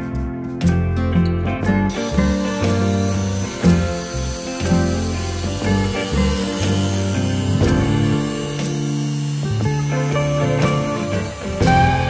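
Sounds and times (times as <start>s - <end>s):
plucked guitar tune: 0.0s - 12.0s.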